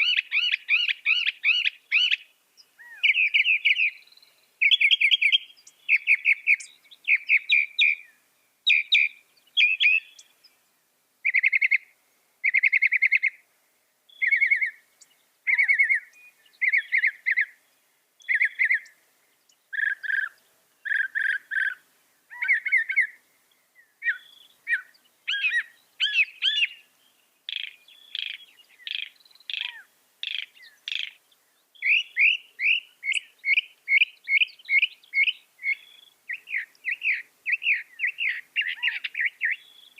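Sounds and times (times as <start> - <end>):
mockingbird singing: 0.0 - 10.4, 11.2 - 13.4, 14.1 - 17.6, 18.2 - 39.9.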